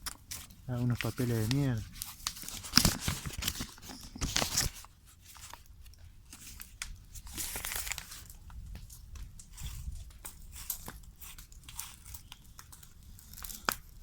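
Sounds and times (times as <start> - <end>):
paper crumpling and tearing: 0.0 - 14.0
paper rustling: 0.0 - 14.0.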